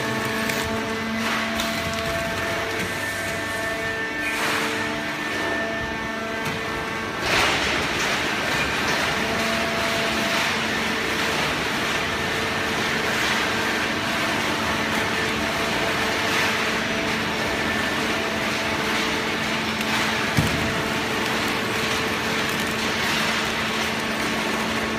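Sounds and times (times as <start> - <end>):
hydraulic baler humming: 0.0 - 24.9.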